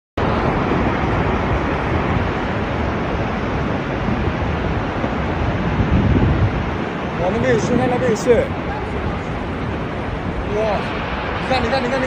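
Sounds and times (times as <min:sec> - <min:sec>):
rockslide rumble: 0:00.2 - 0:12.0.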